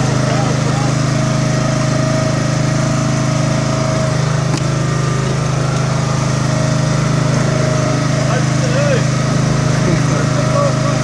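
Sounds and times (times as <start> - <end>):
small boat engine droning: 0.0 - 11.0
steady whine: 0.0 - 11.0.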